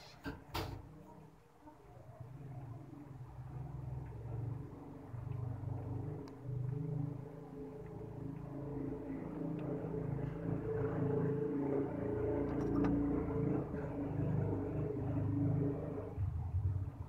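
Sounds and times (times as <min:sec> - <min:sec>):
low engine rumble: 0:00.4 - 0:17.0.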